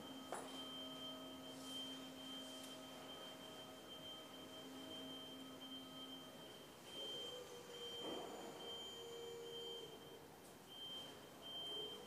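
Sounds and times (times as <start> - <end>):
hum of held tones: 0.0 - 12.0.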